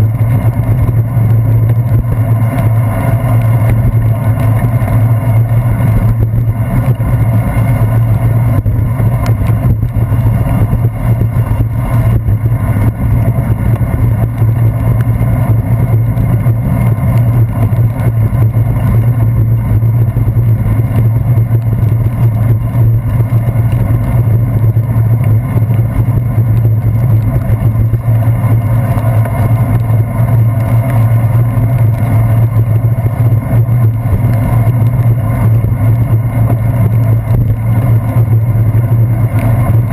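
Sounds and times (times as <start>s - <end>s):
bicycle rumbling over wet pavement: 0.0s - 39.9s
motor traffic: 0.0s - 39.9s.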